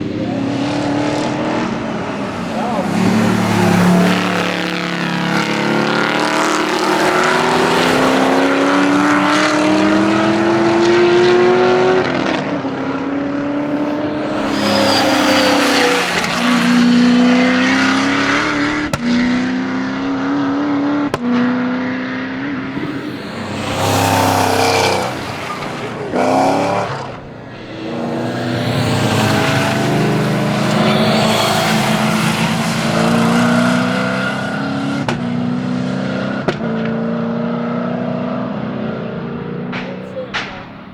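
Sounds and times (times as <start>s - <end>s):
car engine at full throttle: 0.0s - 40.9s.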